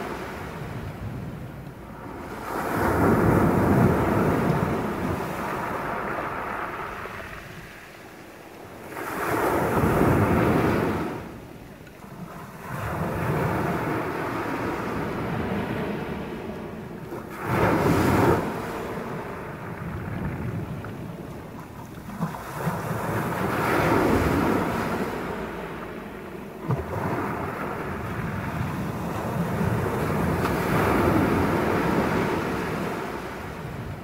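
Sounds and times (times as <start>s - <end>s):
waves breaking on shingle beach: 2.0s - 11.4s, 12.2s - 34.0s.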